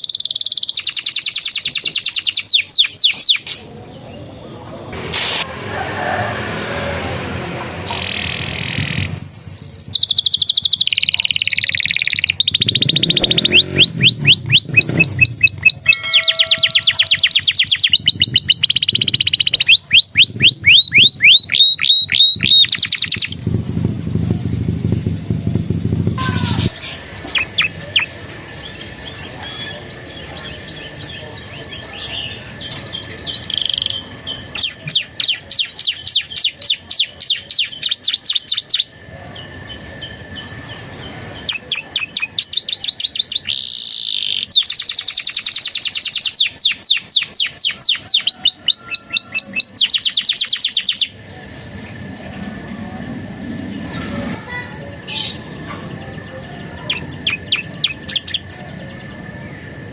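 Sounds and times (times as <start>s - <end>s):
canary singing: 0.0s - 4.4s, 7.8s - 23.4s, 26.2s - 59.9s.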